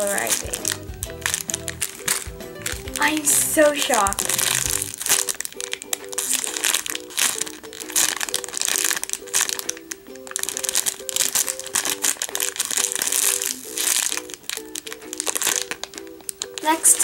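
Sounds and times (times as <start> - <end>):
plastic bag crinkling: 0.0 - 17.0
simple background music: 0.0 - 17.0.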